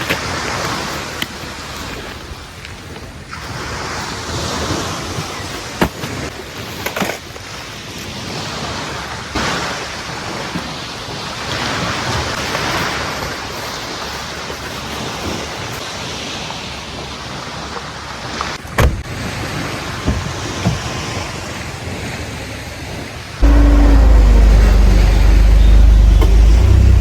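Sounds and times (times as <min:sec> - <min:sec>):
sea waves breaking on beach: 0:00.0 - 0:27.0.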